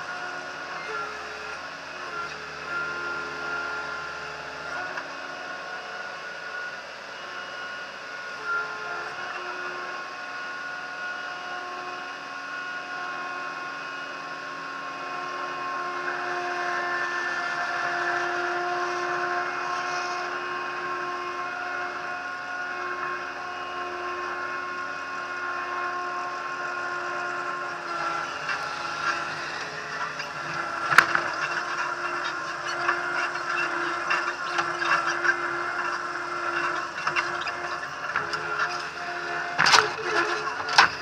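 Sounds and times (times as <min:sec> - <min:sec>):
loader engine running with whine: 0:00.0 - 0:41.0.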